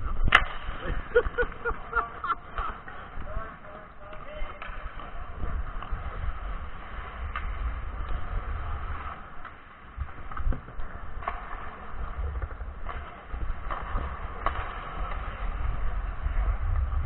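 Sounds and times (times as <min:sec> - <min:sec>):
low rumble of movement: 0:00.0 - 0:17.0
skates scraping on ice: 0:00.0 - 0:17.0.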